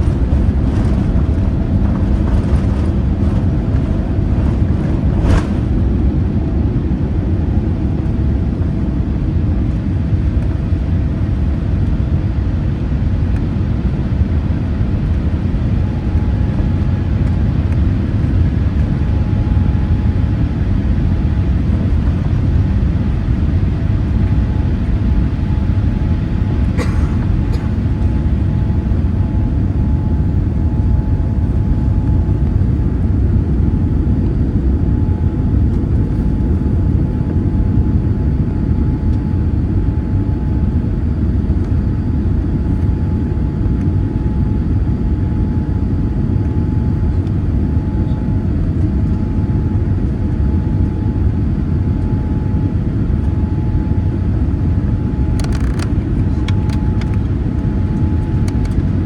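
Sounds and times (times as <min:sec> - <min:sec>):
aircraft engines rumbling in cabin: 0:00.0 - 0:59.0.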